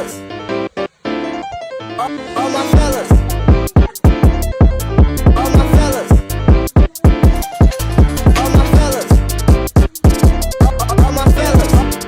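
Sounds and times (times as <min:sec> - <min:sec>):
hip hop keyboard riff: 0:00.0 - 0:12.0.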